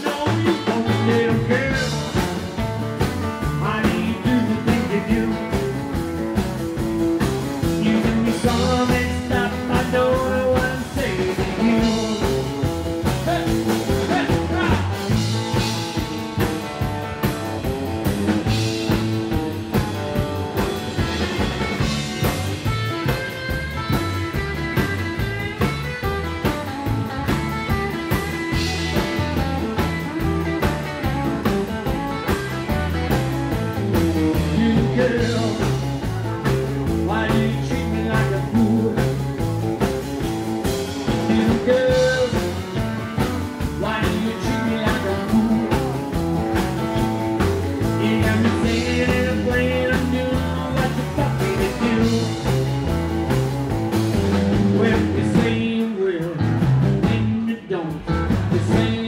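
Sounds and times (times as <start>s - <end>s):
rockabilly band playing: 0.0s - 59.0s
walking bass line: 0.0s - 59.0s.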